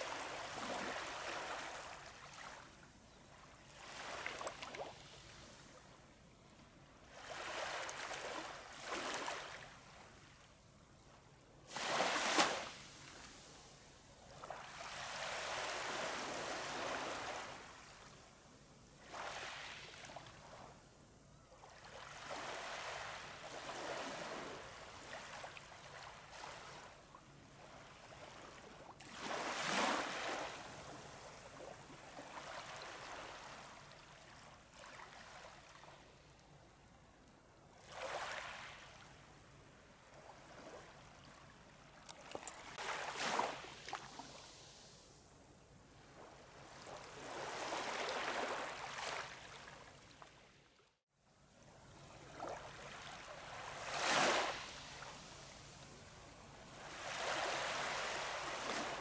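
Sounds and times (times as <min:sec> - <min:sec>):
small waves on sandy beach: 0:00.0 - 0:06.2, 0:06.9 - 0:20.8, 0:21.5 - 0:36.6, 0:37.7 - 0:50.9, 0:51.6 - 0:59.0.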